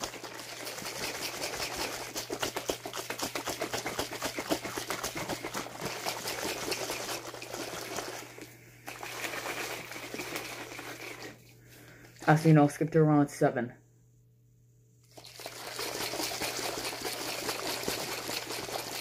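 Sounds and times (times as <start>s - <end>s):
liquid sloshing in shaker cup: 0.0s - 12.3s, 15.0s - 19.0s.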